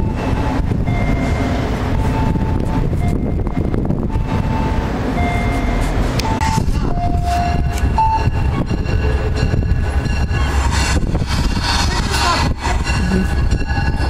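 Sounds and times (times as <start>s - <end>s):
diesel train engines rumbling: 0.0s - 14.0s.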